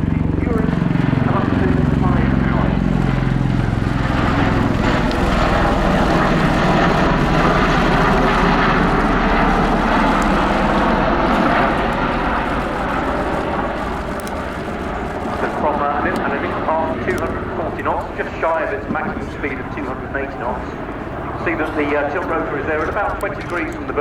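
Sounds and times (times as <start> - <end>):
tilt-rotor aircraft roaring: 0.0 - 24.0.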